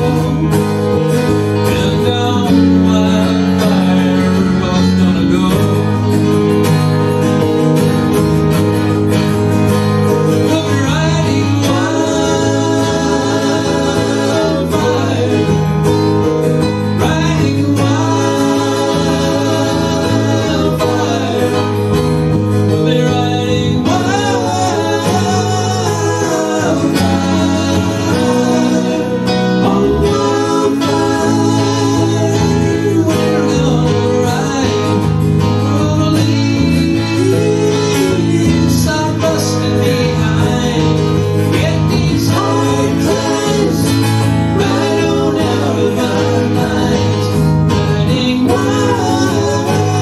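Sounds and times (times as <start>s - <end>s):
men singing: 0.0s - 7.5s, 9.7s - 50.0s
electric bass: 0.0s - 50.0s
keyboard: 0.0s - 50.0s
strummed acoustic guitars: 0.0s - 50.0s.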